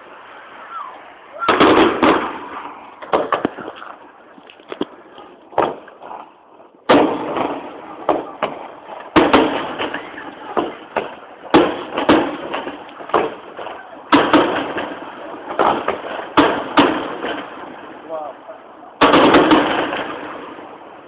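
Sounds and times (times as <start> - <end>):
firework crackle: 0.0 - 21.0
firework shells bursting: 1.4 - 17.9, 19.0 - 20.7.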